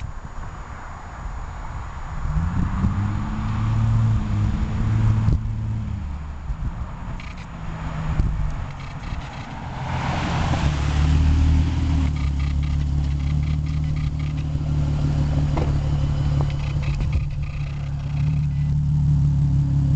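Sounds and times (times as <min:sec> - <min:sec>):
engine exhaust note: 0:02.1 - 0:19.9.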